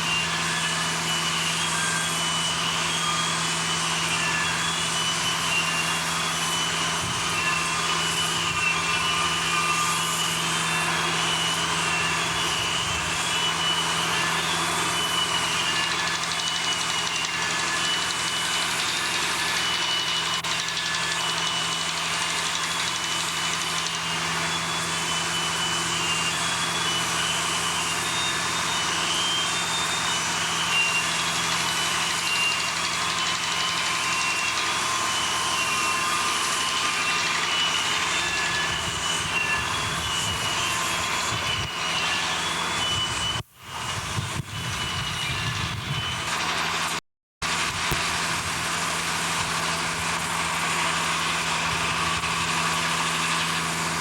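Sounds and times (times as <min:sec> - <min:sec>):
short high-pitched squeaks: 0:00.0 - 0:47.0, 0:47.8 - 0:54.0
machinery humming: 0:00.0 - 0:54.0.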